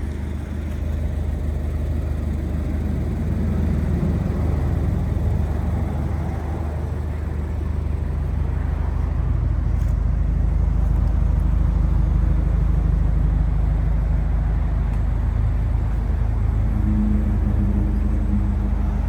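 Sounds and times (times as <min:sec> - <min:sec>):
car engine running: 0:00.0 - 0:09.2, 0:09.8 - 0:19.0.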